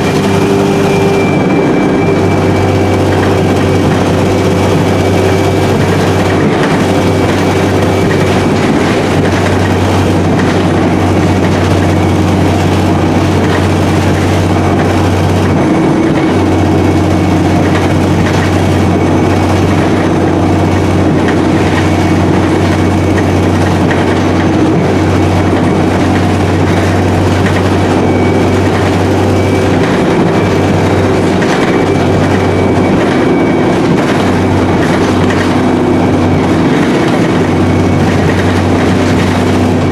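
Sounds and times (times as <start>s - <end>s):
bus engine drone: 0.0s - 39.9s
gearbox whine: 0.0s - 39.9s.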